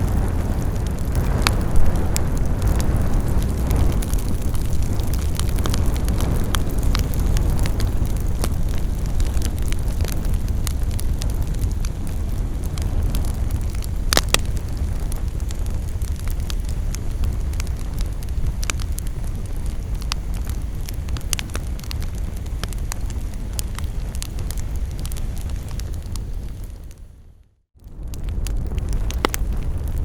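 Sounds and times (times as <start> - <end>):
campfire crackling and popping: 0.0 - 27.2, 27.8 - 30.0
low fire rumble: 0.0 - 30.0.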